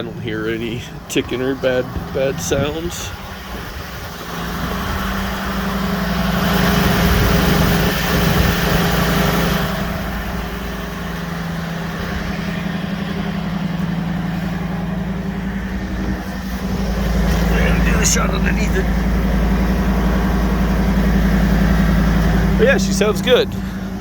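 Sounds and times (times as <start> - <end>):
motorhome engine idling: 0.0 - 24.0.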